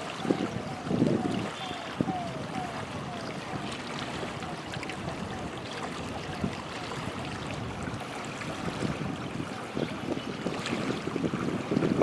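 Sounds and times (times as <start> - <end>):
river water rushing: 0.0 - 12.0
wind: 0.0 - 12.0.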